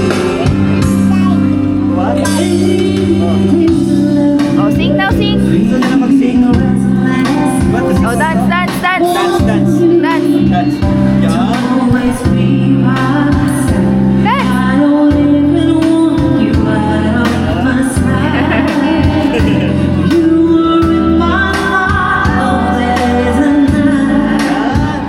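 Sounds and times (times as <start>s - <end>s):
party music with female singer: 2.2s - 25.0s.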